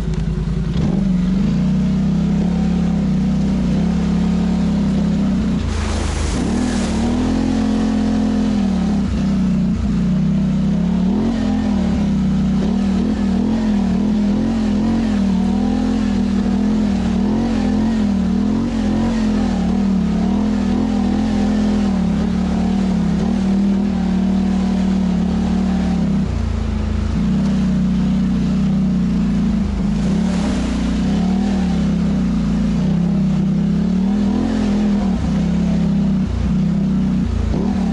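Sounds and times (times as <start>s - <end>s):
quad bike engine revving: 0.0s - 37.9s
splashing through puddle: 4.7s - 10.4s, 11.0s - 37.9s.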